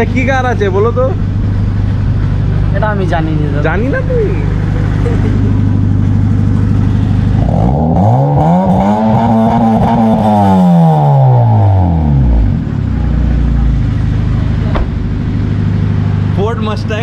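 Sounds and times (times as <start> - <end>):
loud car exhaust idling and revving: 0.0 - 17.0.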